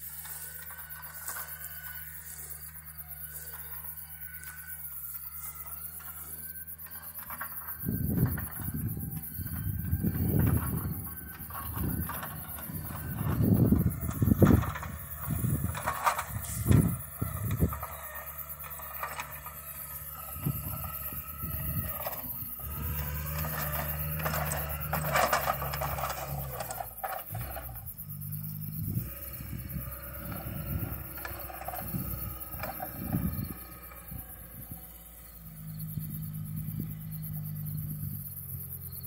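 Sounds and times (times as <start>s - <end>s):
diesel loader engine running: 0.0s - 39.0s.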